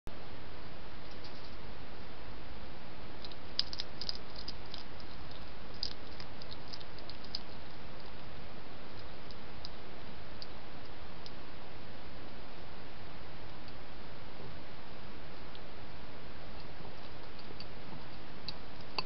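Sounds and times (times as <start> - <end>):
microphone hiss: 0.1 - 19.0.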